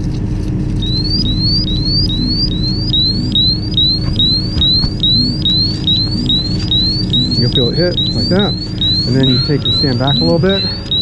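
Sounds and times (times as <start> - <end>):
steady low hum: 0.0 - 11.0
electronic alarm chirping: 0.8 - 11.0.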